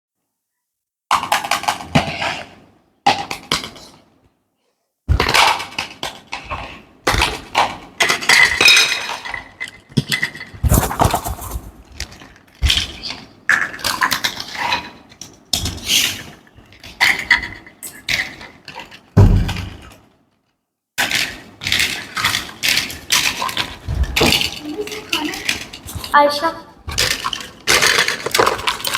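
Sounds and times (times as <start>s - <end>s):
plastic toy pieces clattering: 1.1s - 4.1s, 5.2s - 20.4s, 21.0s - 28.9s.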